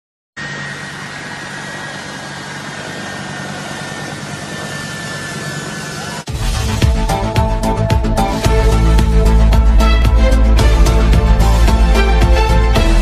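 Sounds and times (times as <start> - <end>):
jet engines whining: 0.4 - 13.0.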